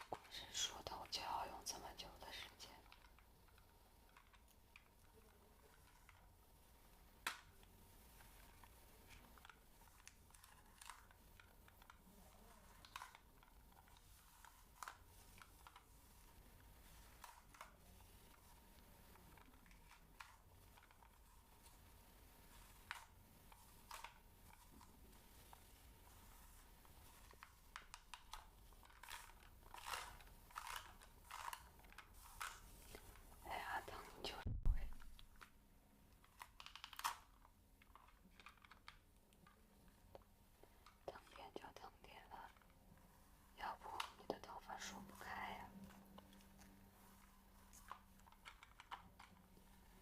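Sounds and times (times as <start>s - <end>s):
faint scratching: 0.0s - 50.0s.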